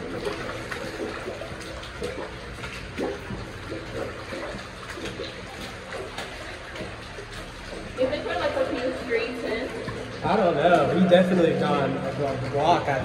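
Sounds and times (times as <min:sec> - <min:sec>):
water rushing through tunnel: 0:00.0 - 0:13.0
water splashes: 0:00.0 - 0:13.0.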